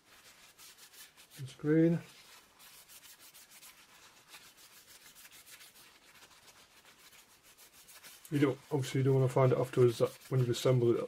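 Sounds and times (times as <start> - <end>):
paper towel rubbing on glass: 0.0 - 11.0.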